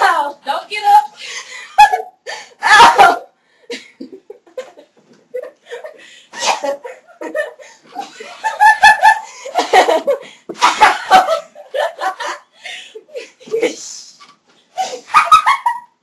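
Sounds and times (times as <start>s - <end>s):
people laughing hard: 1.5s - 13.7s, 14.8s - 16.0s.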